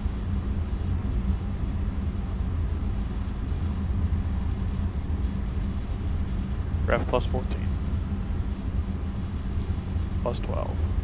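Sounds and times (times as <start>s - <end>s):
jet cockpit engine and airflow rumble: 0.0s - 11.0s.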